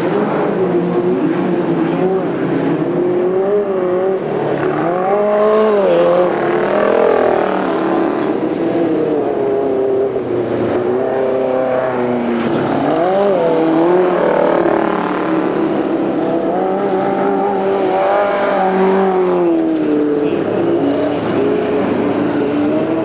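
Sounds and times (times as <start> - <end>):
race car engines on dirt track: 0.0 - 23.0.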